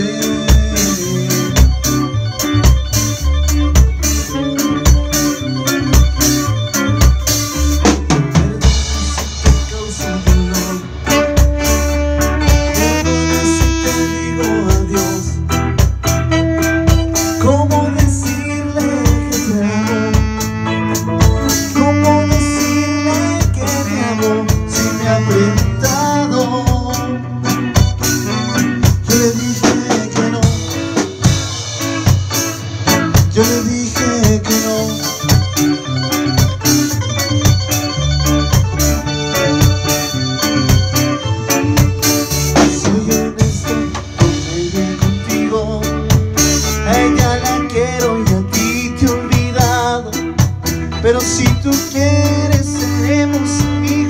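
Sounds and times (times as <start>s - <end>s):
bass guitar: 0.0s - 54.0s
drum kit with rimshots: 0.0s - 54.0s
electric guitar: 0.0s - 54.0s
keyboard: 0.0s - 54.0s
saxophone melody: 0.0s - 54.0s.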